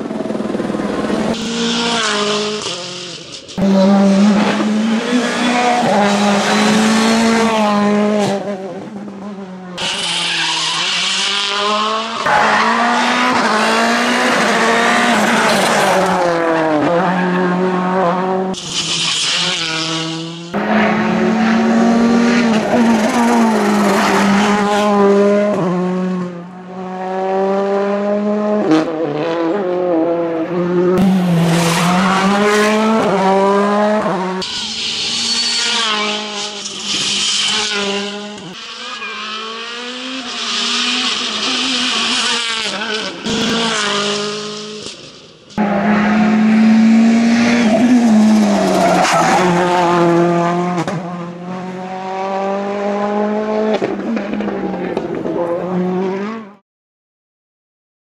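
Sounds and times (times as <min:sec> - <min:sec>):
rally car engines revving: 0:00.0 - 0:56.6.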